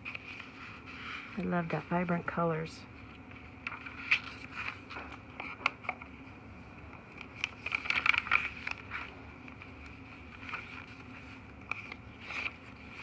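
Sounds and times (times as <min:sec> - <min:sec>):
paper pages rustling: 0:00.0 - 0:02.3, 0:03.0 - 0:06.2, 0:07.1 - 0:13.0.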